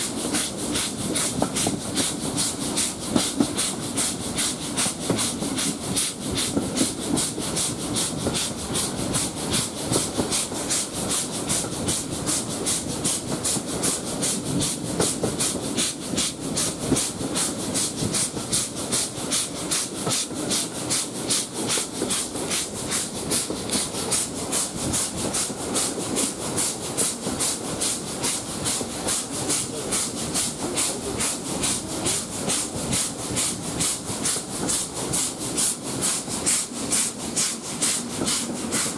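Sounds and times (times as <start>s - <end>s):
steam locomotive chuffing: 0.0s - 38.9s
train running: 0.0s - 38.9s.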